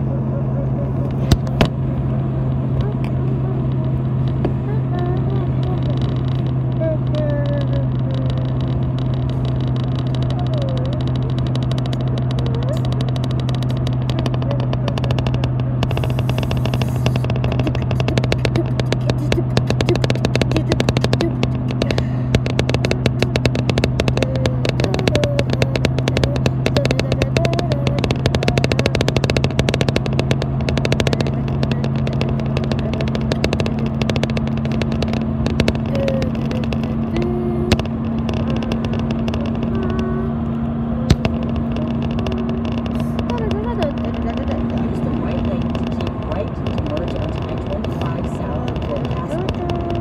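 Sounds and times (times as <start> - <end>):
car interior road drone: 0.0 - 50.0
fine rattle: 1.0 - 50.0.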